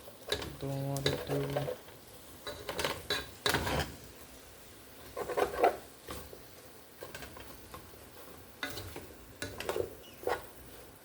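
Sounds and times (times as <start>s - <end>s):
utensil scraping in a pan: 0.0s - 11.0s.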